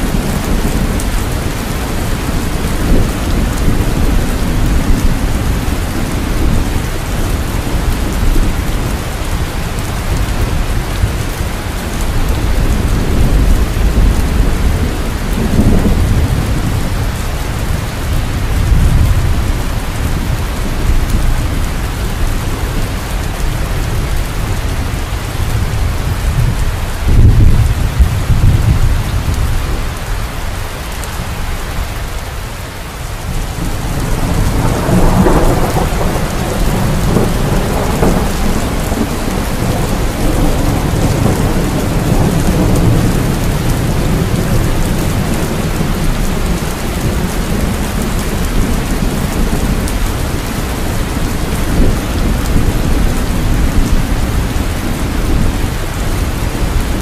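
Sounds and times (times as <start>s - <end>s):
heavy rain falling: 0.0s - 57.0s
thunder rumbling: 0.0s - 57.0s.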